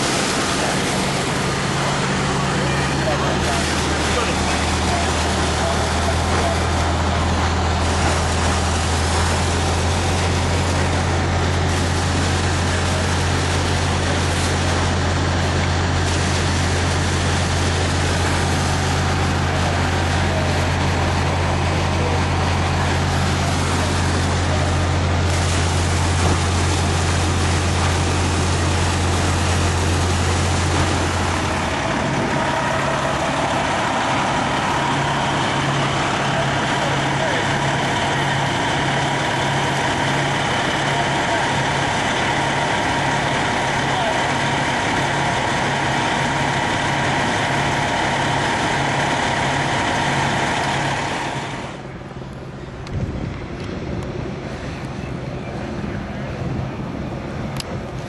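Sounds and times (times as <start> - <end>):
diesel engines humming: 0.0 - 58.0.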